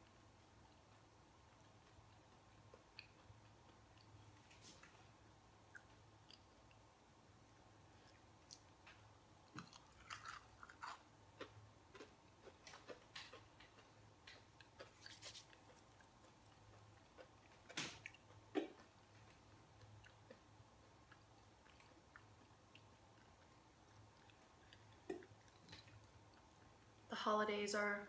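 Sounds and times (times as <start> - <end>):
person chewing crunchy food: 0.4 - 5.0, 7.9 - 27.1.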